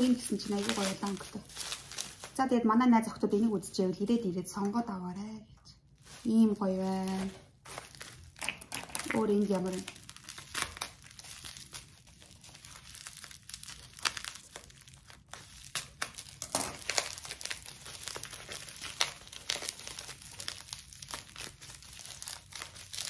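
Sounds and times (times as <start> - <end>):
bubble wrap crinkling: 0.0 - 4.9, 5.8 - 23.0.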